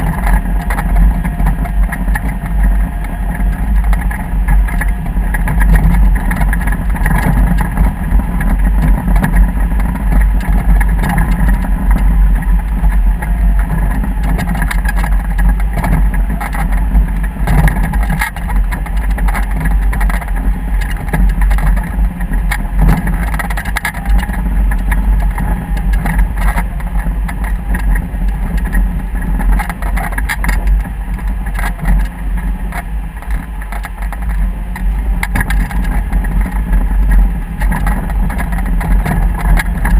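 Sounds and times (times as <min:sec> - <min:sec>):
vehicle engine running: 0:00.0 - 0:39.9
wind rumbling on microphone: 0:00.0 - 0:39.9.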